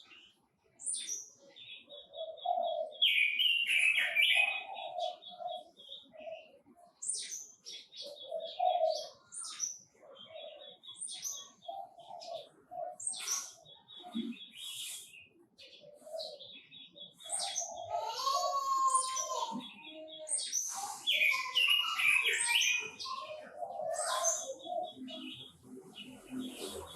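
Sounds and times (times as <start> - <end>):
bird warbling song: 0.0 - 26.9
birds chirping and trilling: 0.0 - 26.9.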